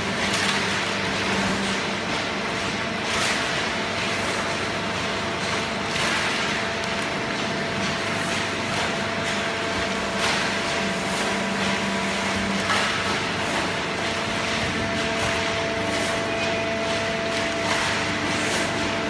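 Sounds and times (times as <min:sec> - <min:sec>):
baler machine hum: 0:00.0 - 0:19.0.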